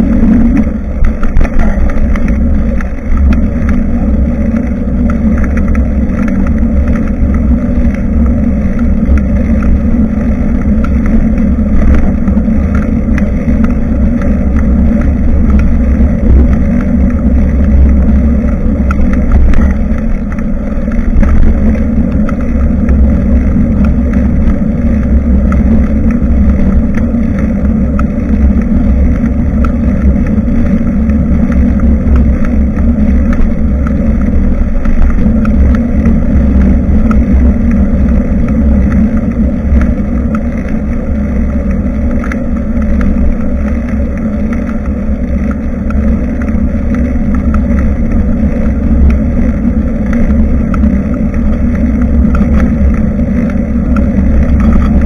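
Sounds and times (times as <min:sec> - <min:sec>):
road and tyre noise: 0:00.0 - 0:55.0
small clicks and rattles: 0:00.0 - 0:55.0
wind rumble on microphone: 0:00.0 - 0:55.0.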